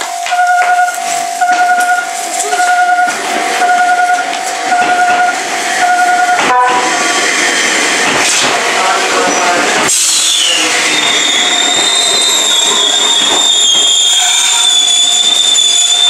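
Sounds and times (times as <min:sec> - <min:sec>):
level-crossing warning bell: 0:00.0 - 0:07.4, 0:10.5 - 0:16.0
train rumble: 0:00.0 - 0:16.0.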